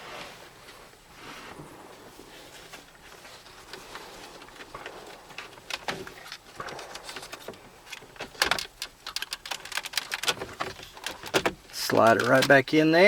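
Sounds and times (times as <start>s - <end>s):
rustling of wiring and trim: 0.0s - 13.0s.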